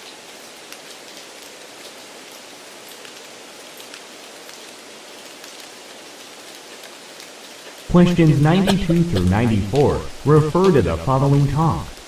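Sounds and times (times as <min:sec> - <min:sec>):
rain-like hiss: 0:00.0 - 0:12.0.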